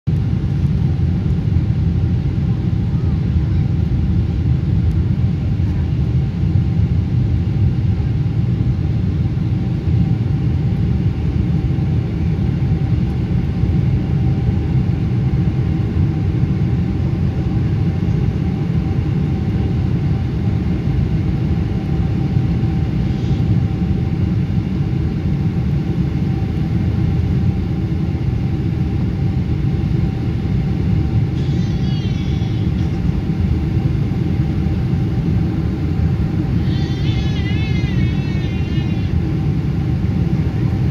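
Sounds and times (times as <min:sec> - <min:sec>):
airflow and jet engines rushing: 0:00.1 - 0:40.9
steady hum tone: 0:00.1 - 0:40.9.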